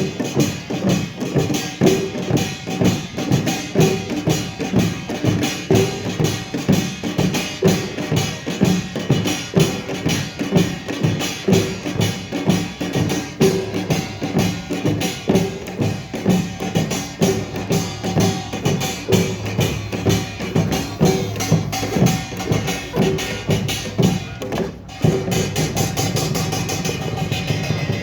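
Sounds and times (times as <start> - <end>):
drums and gongs playing fast: 0.0 - 28.0.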